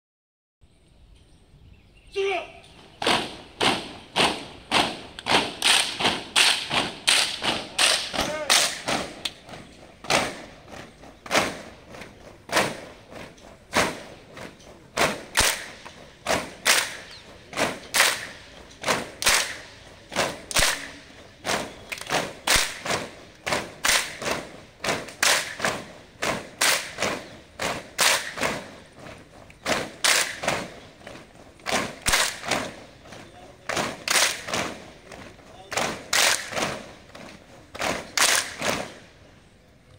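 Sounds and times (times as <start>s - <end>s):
synchronized drill thuds: 2.7s - 39.0s.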